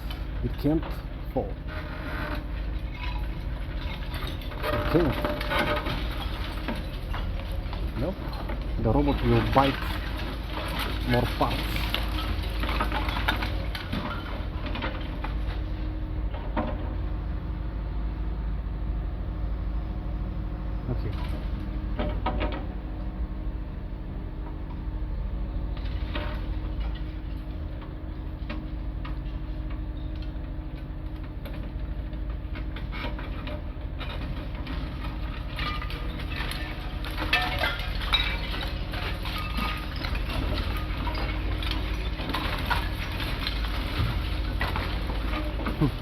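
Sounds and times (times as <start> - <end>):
concrete cracking and clattering: 0.0 - 16.9, 25.8 - 46.0.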